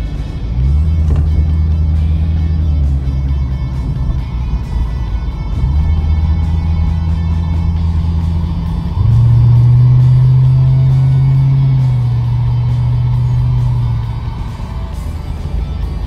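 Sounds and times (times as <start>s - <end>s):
car engine drone from inside cabin: 0.0s - 16.0s.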